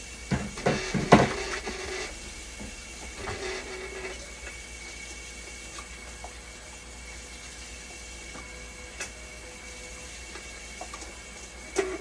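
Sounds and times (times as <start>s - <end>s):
machine high whine: 0.0s - 12.0s.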